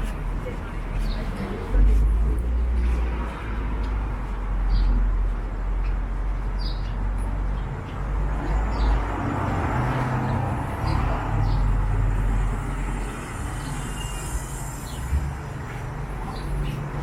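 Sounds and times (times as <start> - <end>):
city traffic passing: 0.0 - 17.0.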